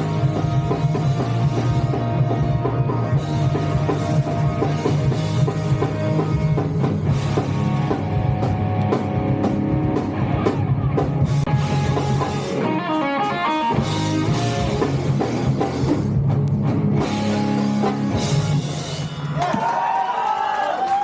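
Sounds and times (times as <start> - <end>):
rock band playing live: 0.0 - 19.5.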